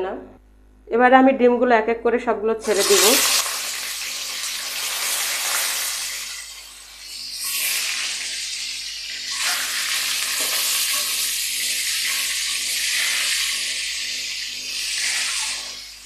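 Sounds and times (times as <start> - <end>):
eggs frying in hot oil: 2.6 - 16.0.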